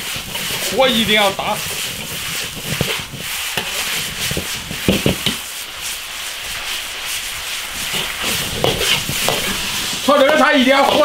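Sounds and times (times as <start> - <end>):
food sizzling in a wok: 0.0 - 11.0
spatula scraping a wok: 0.0 - 11.0.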